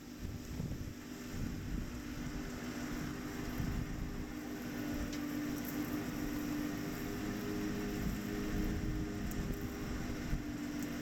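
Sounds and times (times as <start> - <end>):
farm machinery engine humming: 0.0 - 11.0.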